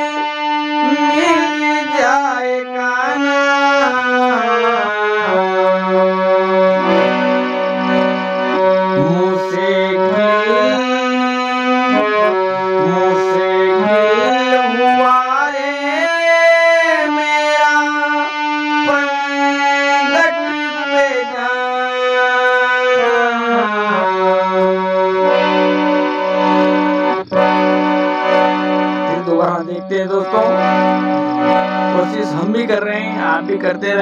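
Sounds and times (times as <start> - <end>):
harmonium melody: 0.0 - 34.0.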